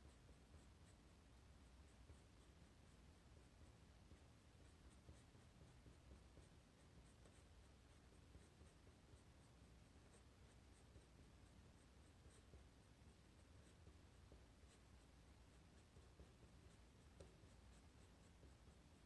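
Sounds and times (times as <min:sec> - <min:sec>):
pen nib scratching on paper: 0:00.0 - 0:19.0.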